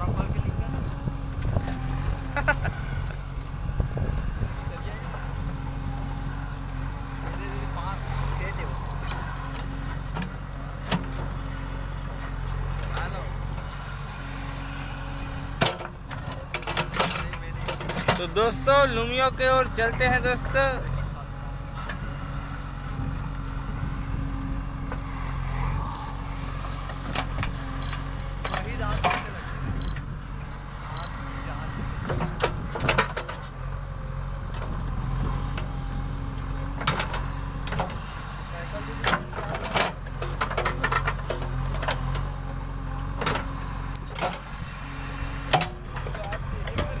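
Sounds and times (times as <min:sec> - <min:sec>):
vehicle engine humming: 0:00.0 - 0:47.0.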